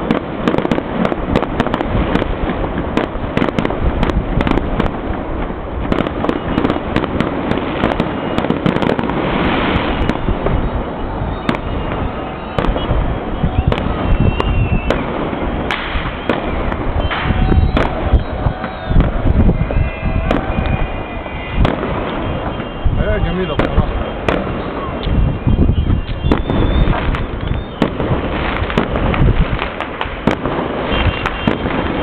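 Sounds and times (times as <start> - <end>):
fireworks and firecrackers banging: 0.0 - 32.0.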